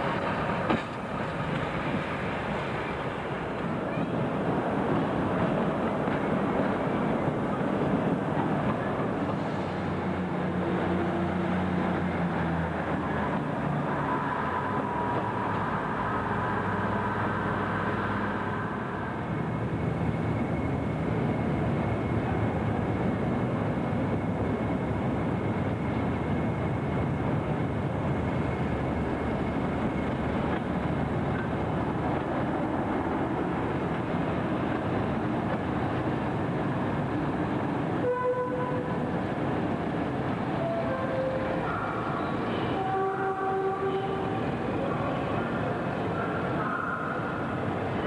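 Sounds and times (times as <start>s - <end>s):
diesel train pulling away: 0.0s - 48.0s.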